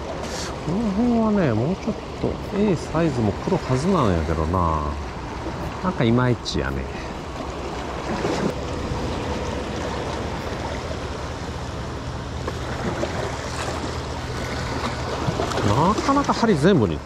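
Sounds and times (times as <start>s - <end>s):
waves splashing against rocks: 0.0s - 17.0s.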